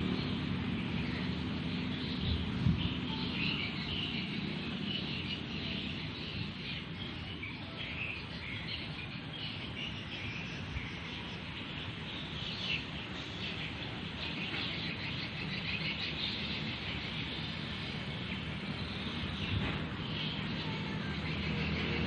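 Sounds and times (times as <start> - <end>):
insects and birds chirping: 0.0 - 22.0.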